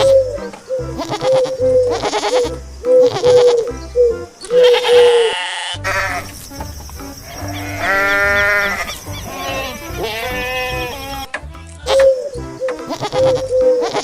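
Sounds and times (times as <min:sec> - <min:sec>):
background music: 0:00.0 - 0:14.0
goat bleating: 0:00.1 - 0:14.0.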